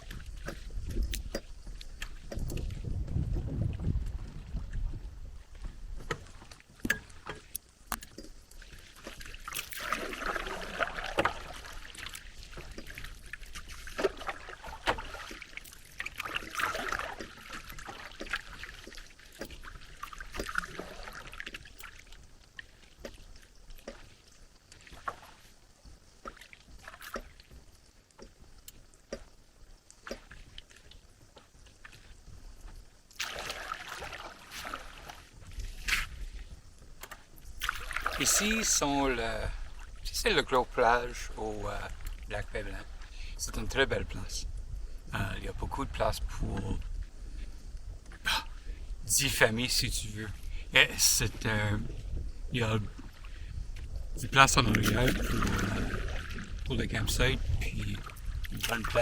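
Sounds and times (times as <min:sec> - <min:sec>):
paddle strokes in water: 0:00.0 - 0:59.0.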